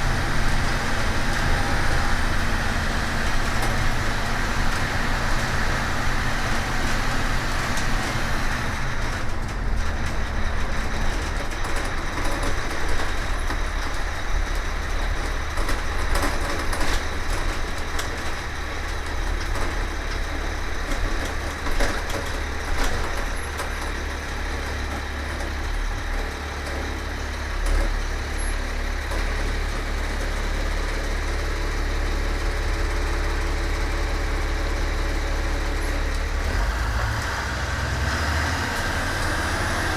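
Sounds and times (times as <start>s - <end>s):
bus diesel engine drone: 0.0s - 39.9s
road noise: 0.0s - 39.9s.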